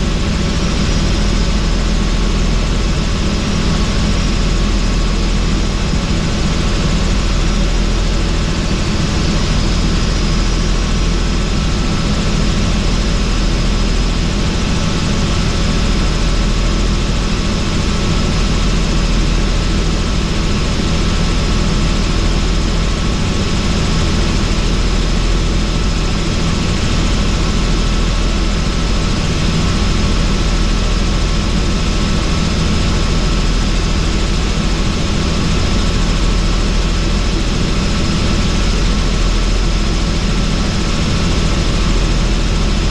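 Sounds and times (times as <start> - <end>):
helicopter rotor and engine drone: 0.0 - 42.9.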